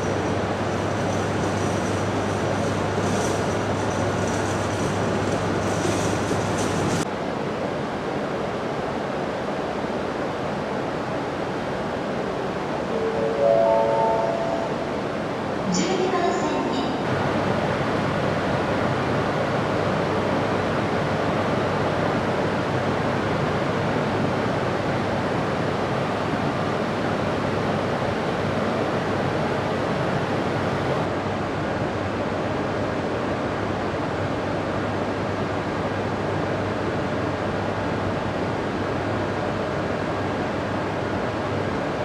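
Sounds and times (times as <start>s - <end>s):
stationary train equipment hum: 0.0s - 42.0s.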